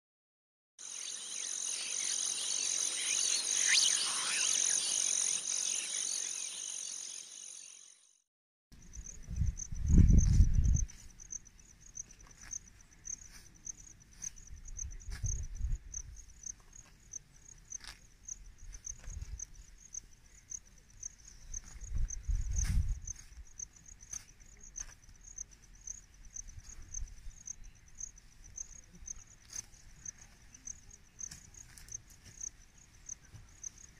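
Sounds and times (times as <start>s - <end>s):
insects trilling: 0.8s - 8.1s, 8.8s - 33.9s.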